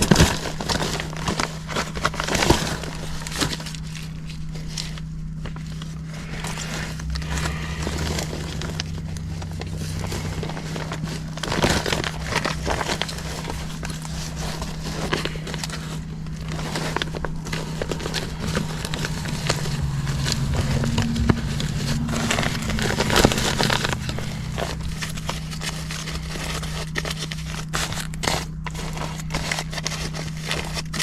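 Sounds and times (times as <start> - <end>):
crinkling material handling: 0.0 - 31.0
steady low hum: 0.0 - 31.0.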